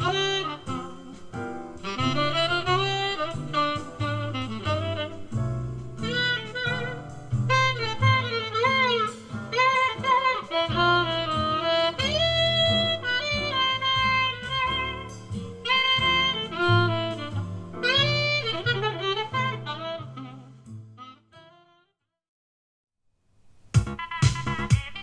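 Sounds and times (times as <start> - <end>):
jazz saxophone over bass: 0.0 - 21.9, 23.8 - 25.0.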